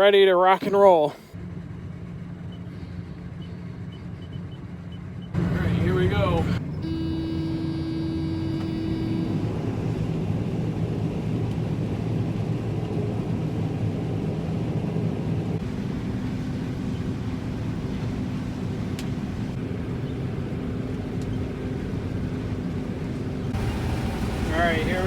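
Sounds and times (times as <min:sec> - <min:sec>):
combine harvester drone: 0:00.0 - 0:25.0.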